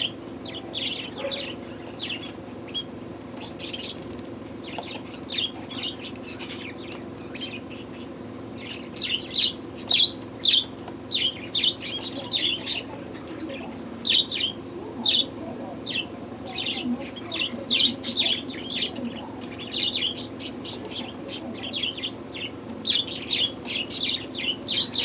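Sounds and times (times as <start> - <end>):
budgerigars chirping: 0.0 - 25.0
low steady hum: 0.0 - 25.0.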